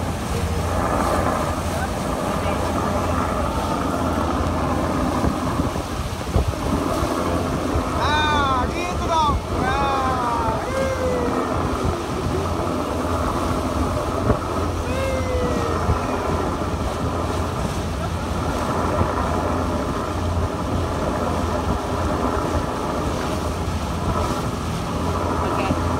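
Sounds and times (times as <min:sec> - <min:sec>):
boat engine hum: 0:00.0 - 0:25.9
rush of boat wake: 0:00.0 - 0:25.9
wind buffeting microphone: 0:00.0 - 0:25.9.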